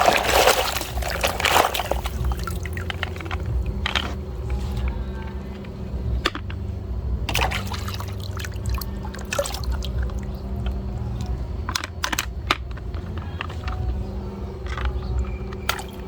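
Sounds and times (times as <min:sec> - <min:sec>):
water pouring and splashing: 0:00.0 - 0:05.6, 0:07.3 - 0:14.0, 0:14.6 - 0:16.0
steady low hum: 0:00.0 - 0:16.0.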